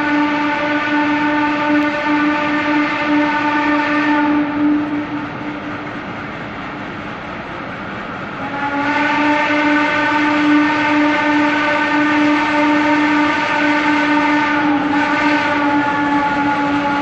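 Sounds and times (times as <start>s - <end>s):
steam whistle blast: 0.0s - 5.8s, 8.3s - 17.0s.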